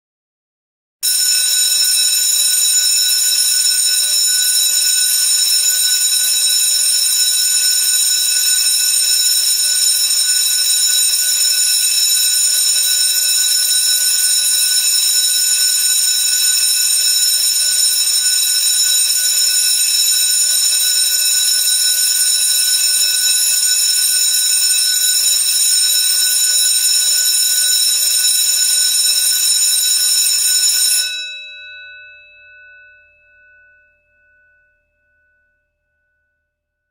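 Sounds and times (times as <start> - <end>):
school bell ringing: 1.0 - 32.4.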